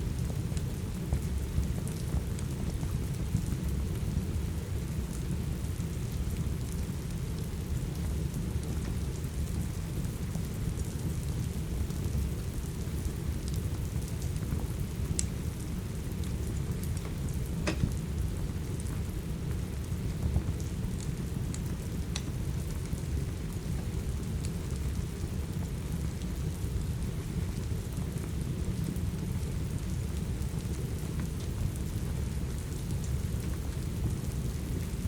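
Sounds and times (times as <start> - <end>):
steady rain rumble: 0.0 - 35.0
wood fire popping and crackling: 0.1 - 35.0.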